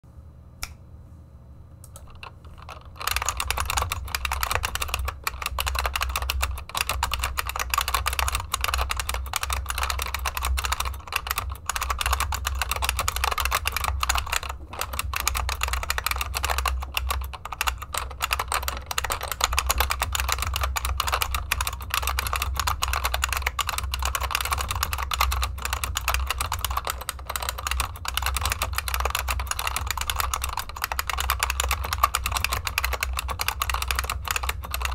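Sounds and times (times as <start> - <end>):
fast clacky keyboard typing: 2.0 - 34.9.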